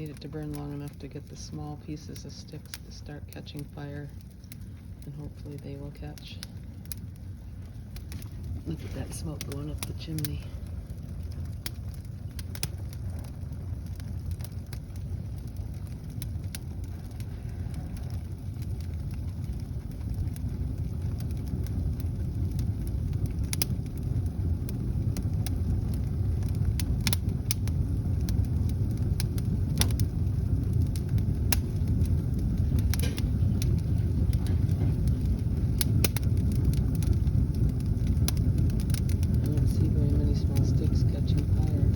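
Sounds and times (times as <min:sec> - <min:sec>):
fire crackling and popping: 0:00.0 - 0:41.9
fire roaring: 0:00.0 - 0:41.9.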